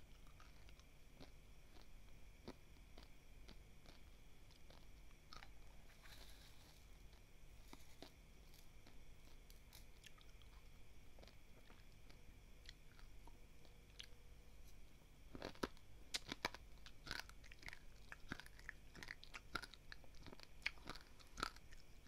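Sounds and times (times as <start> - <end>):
chewing dry rice grains: 0.0 - 22.0.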